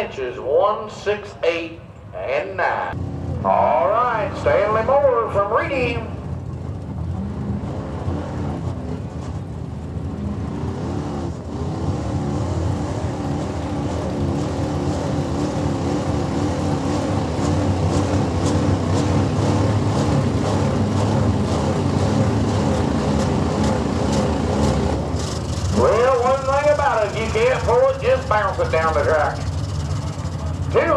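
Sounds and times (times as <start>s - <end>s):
truck engine running at high revs: 4.1s - 30.9s.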